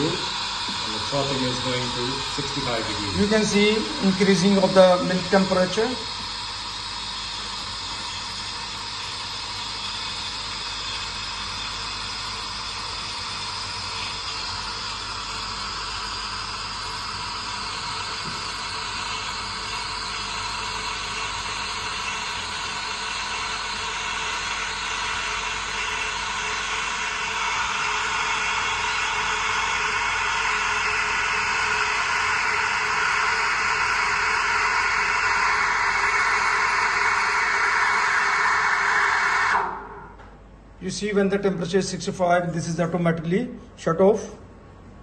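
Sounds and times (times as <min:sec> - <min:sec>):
steam wand frothing milk: 0:00.0 - 0:40.2.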